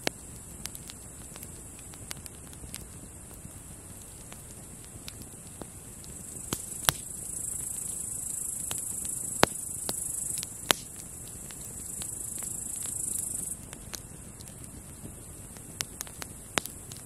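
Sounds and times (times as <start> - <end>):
campfire crackling and popping: 0.0 - 17.0
grasshoppers trilling: 0.0 - 17.0.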